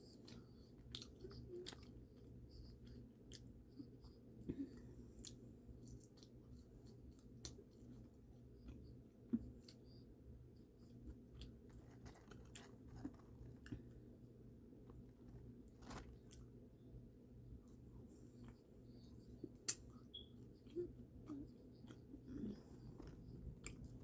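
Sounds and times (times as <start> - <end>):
chewing fried food: 0.0 - 16.6, 17.5 - 24.0.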